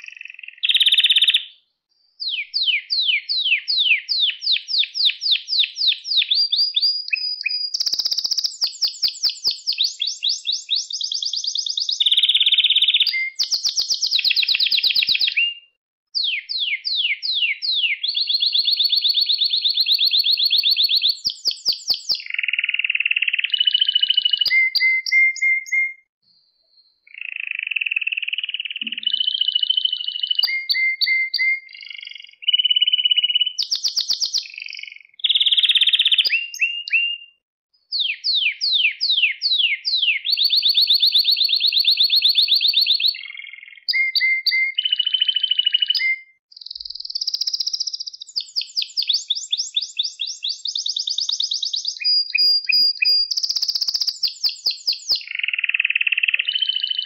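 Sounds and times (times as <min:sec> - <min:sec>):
canary singing trills: 0:00.0 - 0:01.6, 0:02.2 - 0:26.0, 0:27.1 - 0:57.0.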